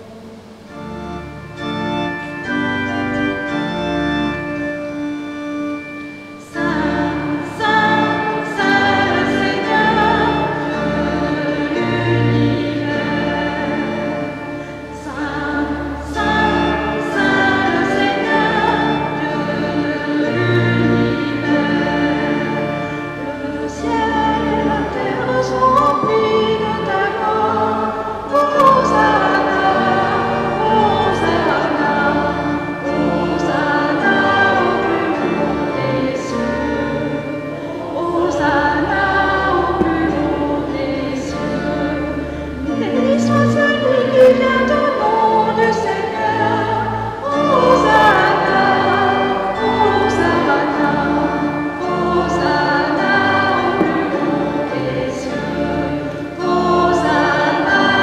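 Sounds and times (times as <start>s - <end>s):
organ chords: 0.0s - 58.0s
voices singing a hymn: 0.0s - 58.0s.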